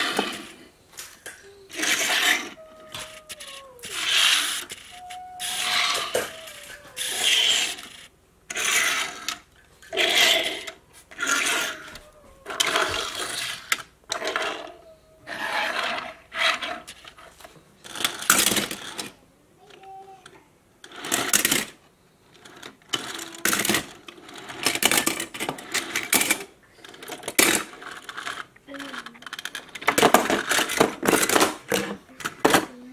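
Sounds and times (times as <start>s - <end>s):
toy cars rolling on tabletop: 0.0s - 32.8s.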